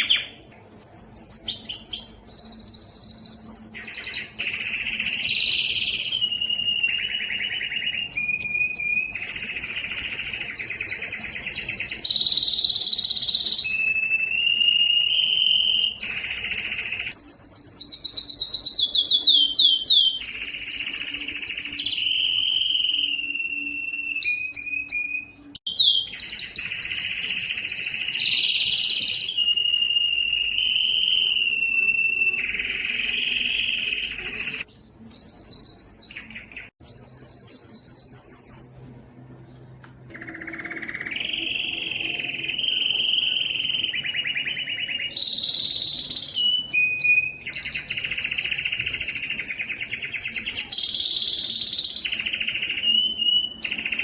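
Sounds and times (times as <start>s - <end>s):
canary singing trills and whistles: 0.0s - 38.8s, 40.1s - 54.0s.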